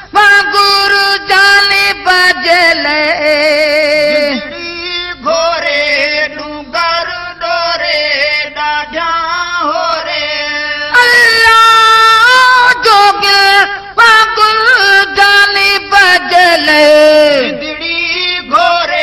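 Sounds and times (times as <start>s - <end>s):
solo voice singing wordless melody: 0.0s - 19.0s.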